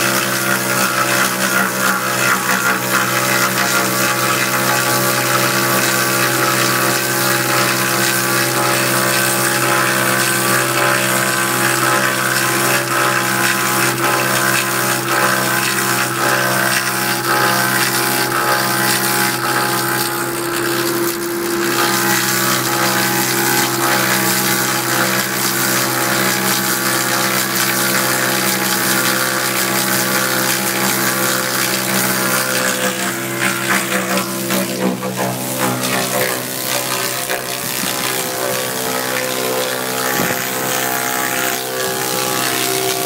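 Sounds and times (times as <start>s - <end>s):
lathe cutter shaving log: 0.0s - 43.0s.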